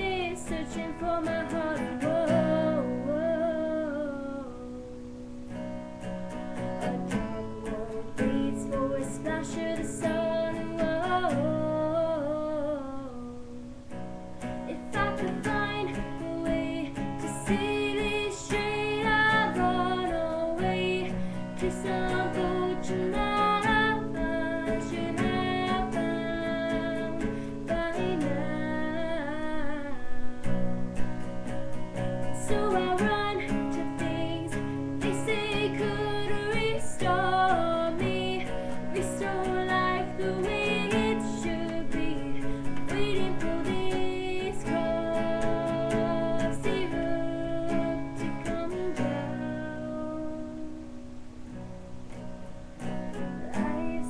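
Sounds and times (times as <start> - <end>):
person singing: 0.0 - 5.4, 6.7 - 30.8, 32.2 - 51.2, 53.1 - 54.0
strummed acoustic guitar: 0.0 - 54.0.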